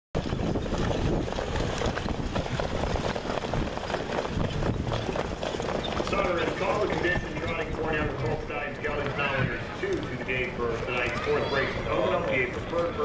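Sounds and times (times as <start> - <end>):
horse hoofbeats on dirt: 0.2 - 13.0
wind rumbling on microphone: 0.2 - 13.0.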